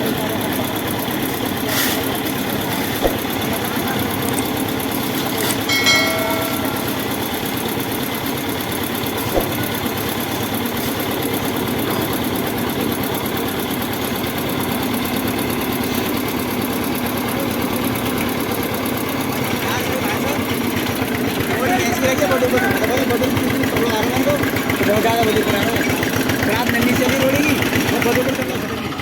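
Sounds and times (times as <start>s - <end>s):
concrete mixer engine running: 0.0s - 29.0s.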